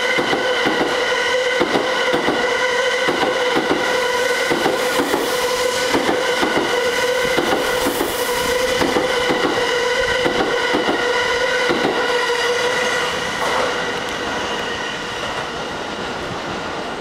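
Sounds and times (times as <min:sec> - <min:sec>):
train wheels clicking: 0:00.0 - 0:15.6
train running on rails: 0:00.0 - 0:17.0.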